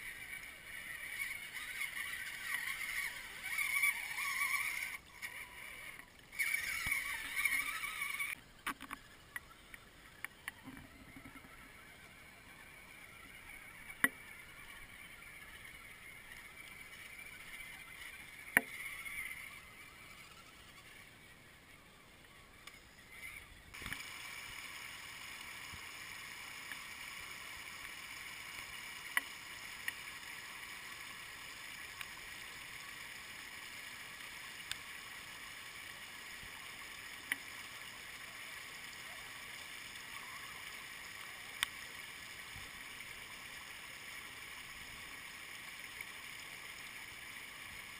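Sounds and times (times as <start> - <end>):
faint ticks: 0.0 - 21.2, 22.2 - 47.9.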